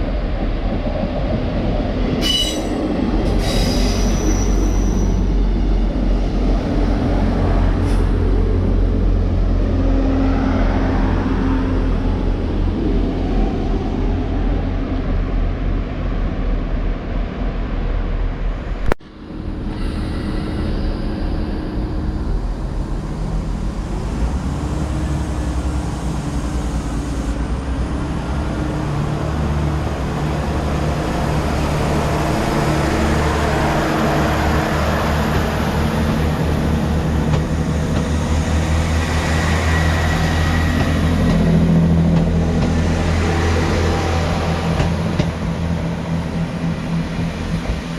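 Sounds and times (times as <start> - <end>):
diesel train engines droning: 0.0 - 47.9
rush of noise: 6.0 - 47.9.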